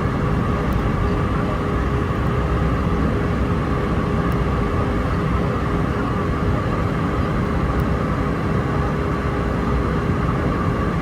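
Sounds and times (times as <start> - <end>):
constant hum tone: 0.0 - 11.0
jet engines droning: 0.0 - 11.0.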